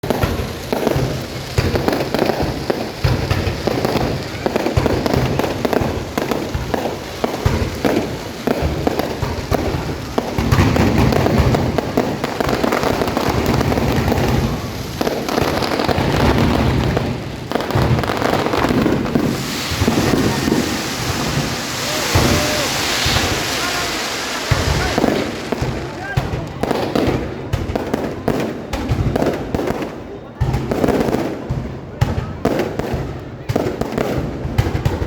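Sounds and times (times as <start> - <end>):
fireworks bangs and booms: 0.0 - 35.0.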